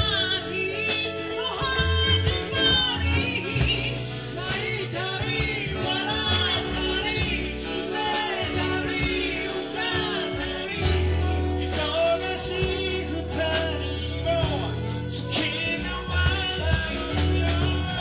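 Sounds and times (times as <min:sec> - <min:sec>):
band playing soul-rock song: 0:00.0 - 0:18.0.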